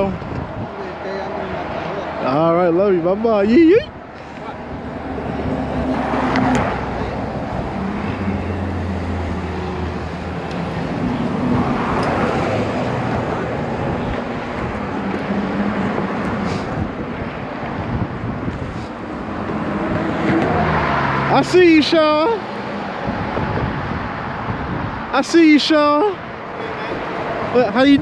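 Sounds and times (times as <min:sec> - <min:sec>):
cars passing close by: 0:00.0 - 0:28.0
hum of tyres and engines: 0:00.0 - 0:28.0.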